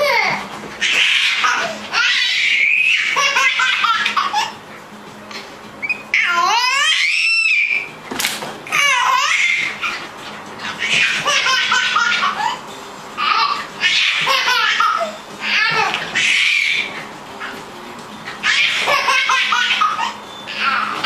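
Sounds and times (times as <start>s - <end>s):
baby laughing: 0.0s - 4.6s, 5.3s - 7.9s, 8.7s - 17.6s, 18.4s - 21.0s.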